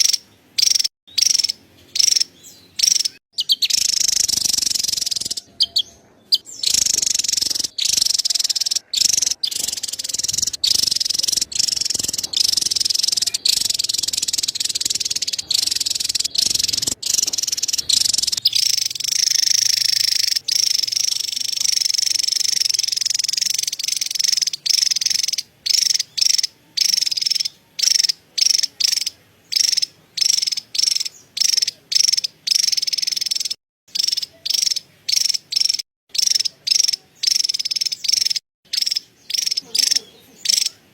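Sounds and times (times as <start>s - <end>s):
bird chattering trill: 0.0s - 40.9s.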